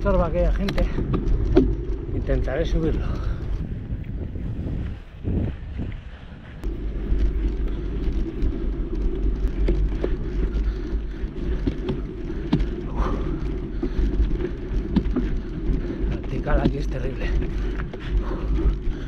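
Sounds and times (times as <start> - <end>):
stones clicking and rattling: 0.0 - 3.7, 6.6 - 19.0
bike tyres rumbling on stony ground: 0.0 - 19.0.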